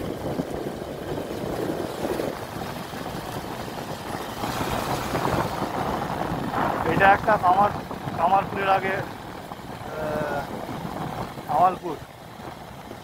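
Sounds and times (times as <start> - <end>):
motorcycle engine rumble: 0.0 - 13.0
wind rushing over microphone: 0.0 - 13.0.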